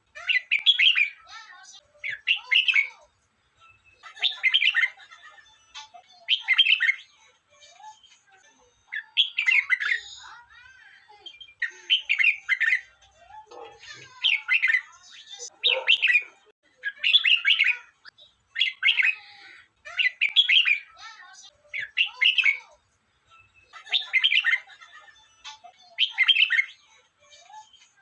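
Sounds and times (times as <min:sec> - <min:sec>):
bird singing chirpy phrases: 0:00.0 - 0:28.0.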